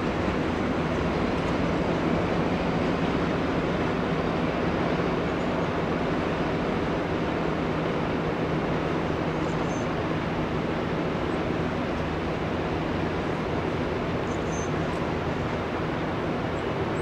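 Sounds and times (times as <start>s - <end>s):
train engine hum: 0.0s - 17.0s
train rushing noise: 0.0s - 17.0s.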